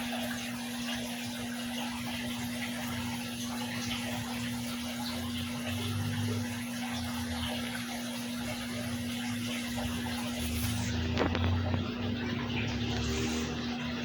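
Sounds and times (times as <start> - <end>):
aquarium water splashing: 0.0 - 14.0
water pump hum: 0.0 - 14.0.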